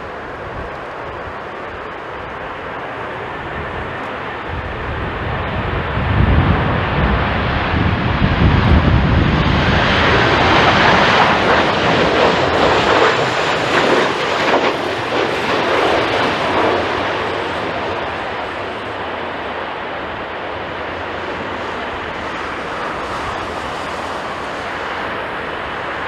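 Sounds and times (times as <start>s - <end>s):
jet airliner engines roaring: 0.0s - 26.0s.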